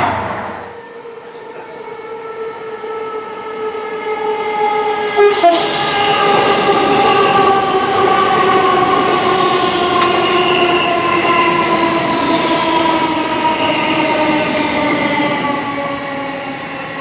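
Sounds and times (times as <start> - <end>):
multi-tone train whine: 0.0 - 17.0
rail noise: 0.0 - 17.0
train approaching at speed: 0.0 - 17.0.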